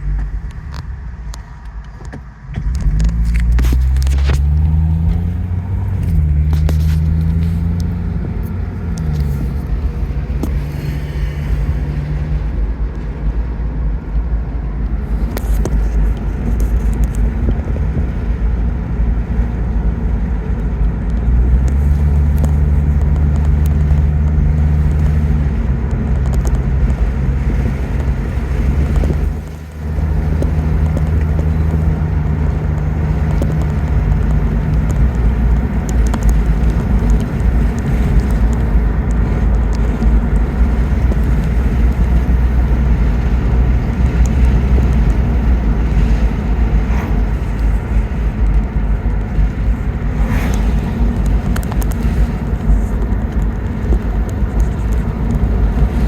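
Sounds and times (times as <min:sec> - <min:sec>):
car engine pulling away: 0:00.0 - 0:56.0.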